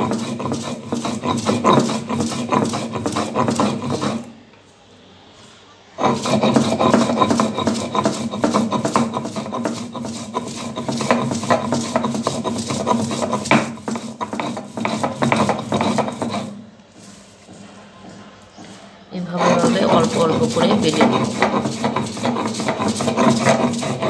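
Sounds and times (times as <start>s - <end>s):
stone grinding on stone: 0.0s - 4.3s, 6.0s - 24.0s.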